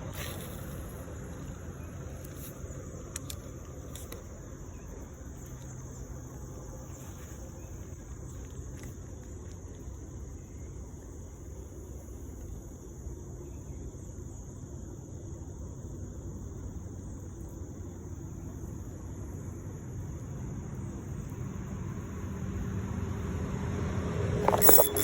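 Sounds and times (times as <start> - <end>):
high-pitched insect chorus: 0.0 - 23.2.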